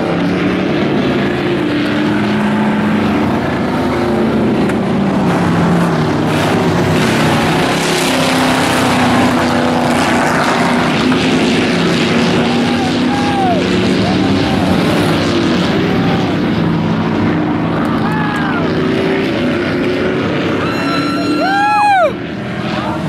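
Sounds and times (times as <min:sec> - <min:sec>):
racing truck engines: 0:00.0 - 0:23.0.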